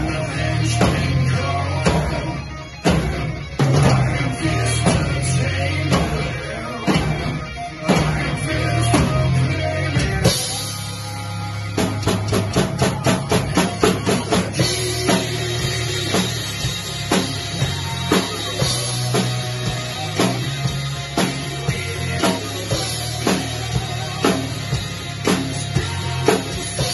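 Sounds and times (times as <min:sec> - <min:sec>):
drum kit: 0:00.0 - 0:26.9
heavy guitar and bass: 0:00.0 - 0:26.9
rock music: 0:00.0 - 0:26.9.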